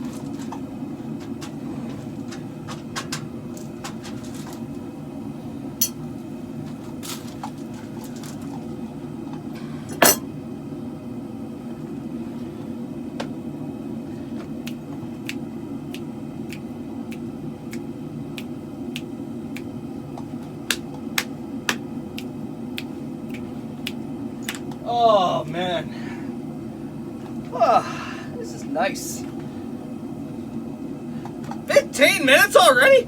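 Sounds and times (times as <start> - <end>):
gas forge rushing: 0.0 - 33.0.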